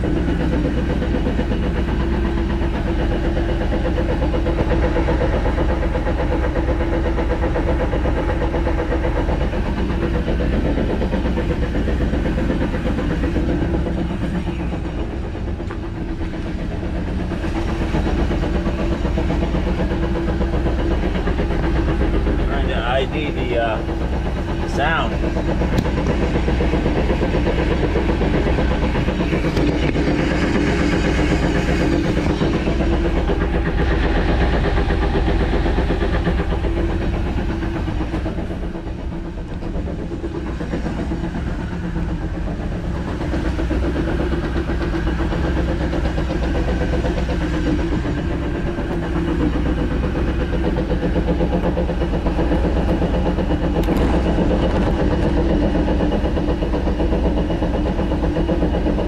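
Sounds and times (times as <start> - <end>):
car engine running: 0.0 - 59.0
drivetrain whirring: 0.0 - 59.0.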